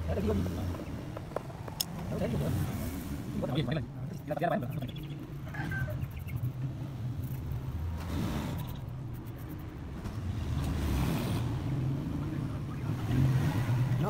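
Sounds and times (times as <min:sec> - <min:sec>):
vehicles passing: 0:00.0 - 0:14.0.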